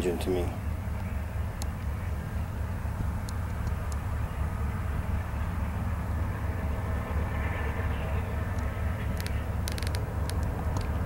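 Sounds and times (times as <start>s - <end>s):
distant diesel locomotive rumble: 0.0s - 11.0s.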